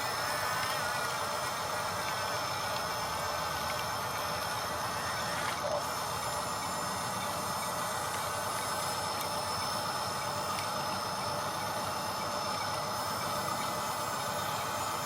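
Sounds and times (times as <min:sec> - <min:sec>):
electric motors whirring: 0:00.0 - 0:15.0.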